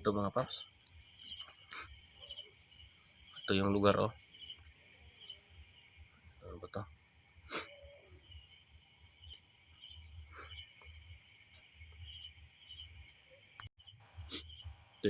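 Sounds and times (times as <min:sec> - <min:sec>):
crickets chirping: 0:00.0 - 0:15.0
high insect drone: 0:00.0 - 0:15.0.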